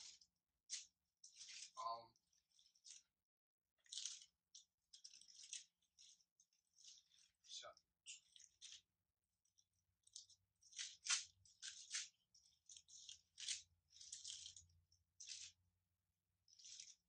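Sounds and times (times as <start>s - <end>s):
book pages rustling and flicking: 0.0s - 3.1s, 3.8s - 15.7s, 16.4s - 17.0s.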